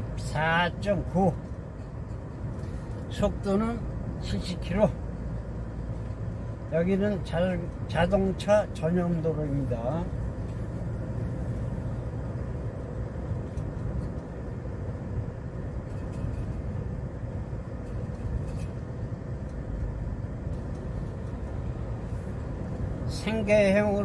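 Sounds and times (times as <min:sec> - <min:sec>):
in-cab engine and road noise: 0:00.0 - 0:24.0.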